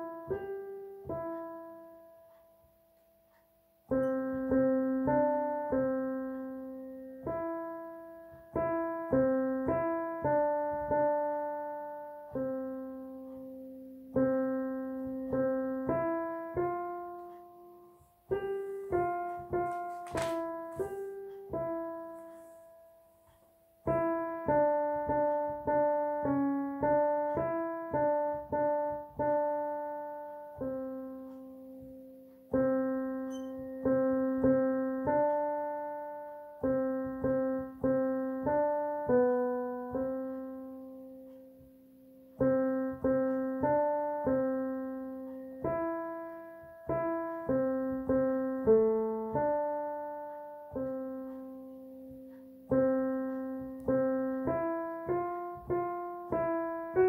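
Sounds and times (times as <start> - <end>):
digital piano melody: 0.0 - 57.0.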